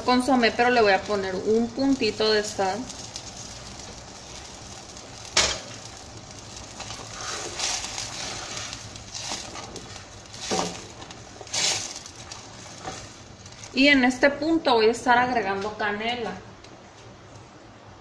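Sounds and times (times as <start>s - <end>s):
sauce boiling in a pan: 0.0s - 14.5s.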